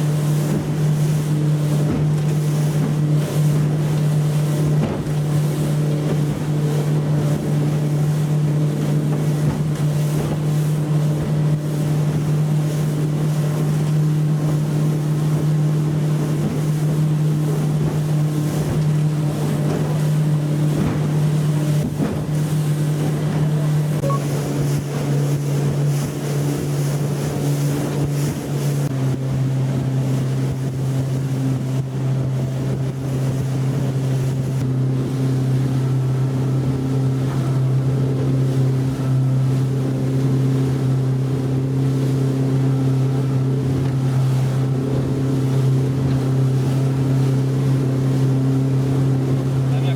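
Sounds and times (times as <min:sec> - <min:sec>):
outboard motor running: 0:00.0 - 0:49.9
water rushing: 0:00.0 - 0:49.9
wind: 0:00.0 - 0:49.9.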